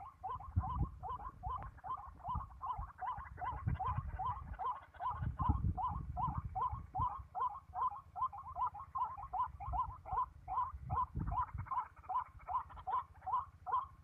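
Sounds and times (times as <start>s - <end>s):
waterhen calling: 0.0s - 14.0s.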